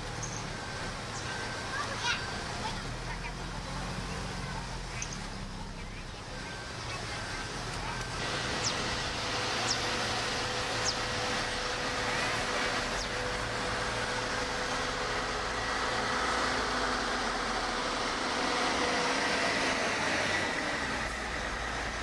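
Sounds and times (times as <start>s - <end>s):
heavy machinery engine running: 0.0s - 22.0s.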